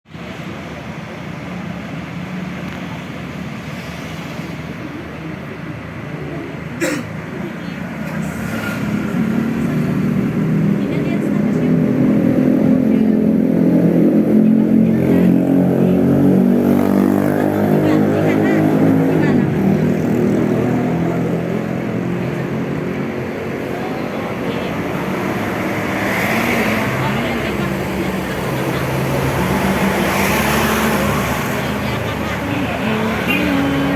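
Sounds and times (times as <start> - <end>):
street traffic noise: 0.0 - 33.9
bus engine running: 0.1 - 33.9.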